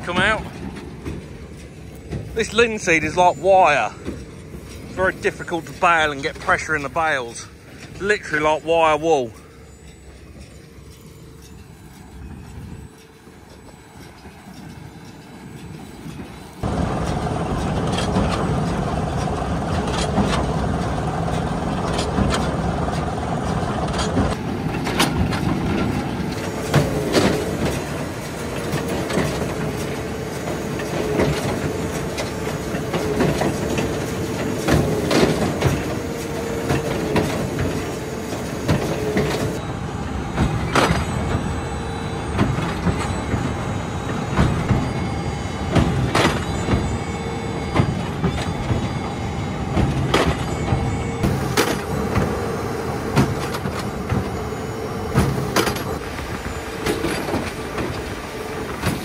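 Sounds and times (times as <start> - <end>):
baler clatter and hum: 0.0 - 59.0.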